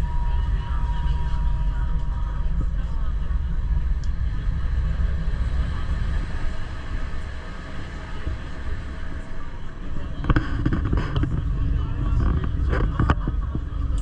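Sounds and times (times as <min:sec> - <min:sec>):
people talking: 0:00.0 - 0:06.6, 0:07.9 - 0:14.0
train rumbling: 0:00.0 - 0:14.0.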